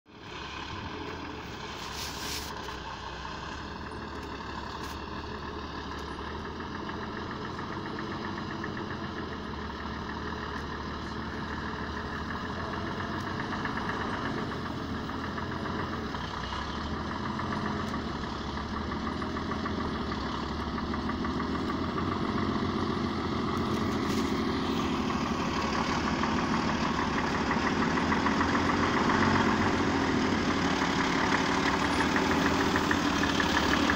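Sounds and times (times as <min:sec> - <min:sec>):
truck diesel engine running: 0:00.1 - 0:33.9.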